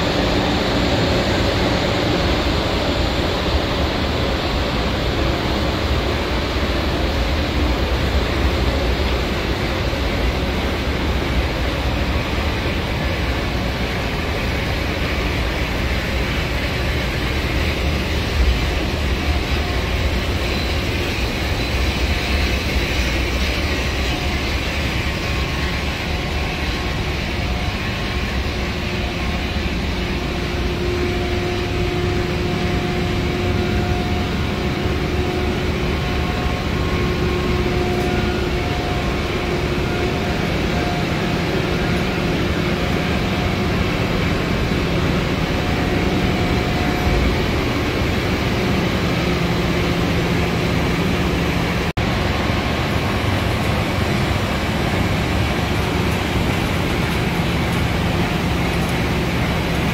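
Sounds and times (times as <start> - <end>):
large diesel engines droning: 0.0 - 59.9.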